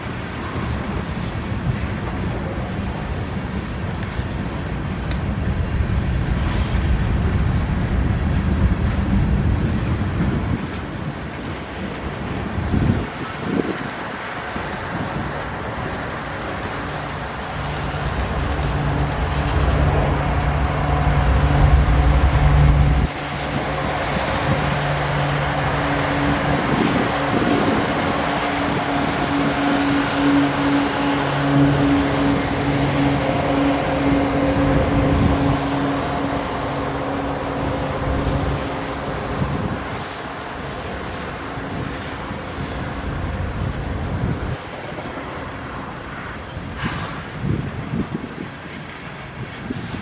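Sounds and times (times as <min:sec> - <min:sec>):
diesel engine drone: 0:00.0 - 0:47.6
train wheels rumbling on rails: 0:00.0 - 0:50.0.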